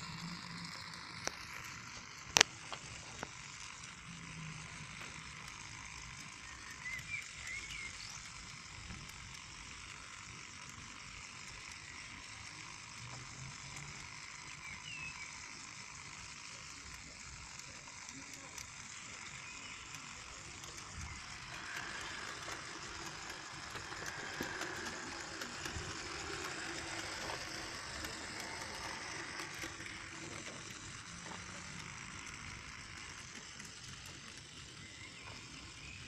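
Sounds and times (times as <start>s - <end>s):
model train motor whirring: 0.0s - 36.0s
wheels clicking over rails: 0.0s - 36.0s.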